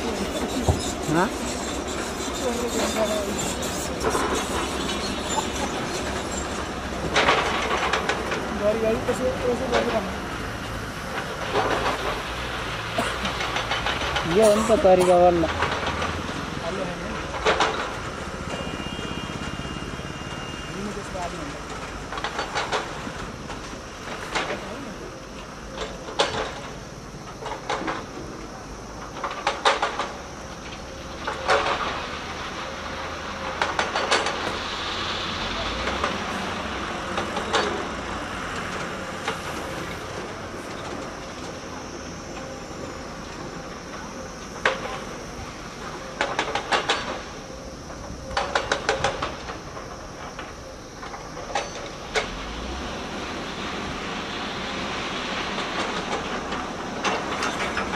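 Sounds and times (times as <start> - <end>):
diesel excavator engines running: 0.0 - 57.9.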